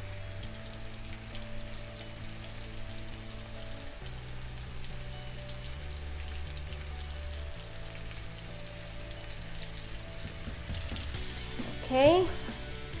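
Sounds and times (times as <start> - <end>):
background music with low bass: 0.0 - 13.0
vegetables sizzling in a pan: 0.0 - 13.0.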